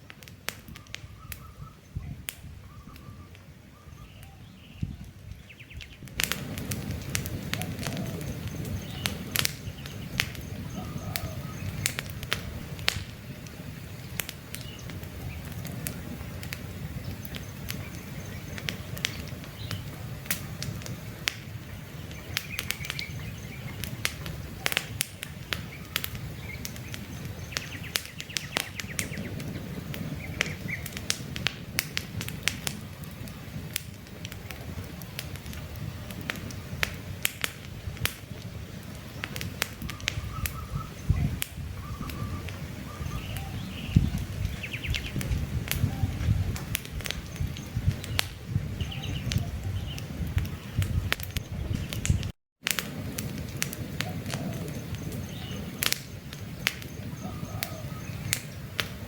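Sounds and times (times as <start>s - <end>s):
birds chirping: 0.0s - 31.4s, 32.3s - 52.3s, 53.8s - 59.0s
campfire crackling and popping: 0.0s - 59.0s
flame rushing: 4.8s - 59.0s.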